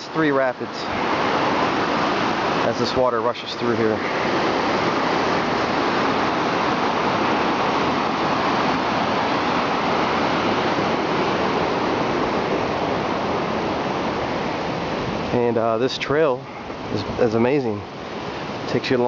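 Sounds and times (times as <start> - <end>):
river rapids roaring: 0.0 - 19.0.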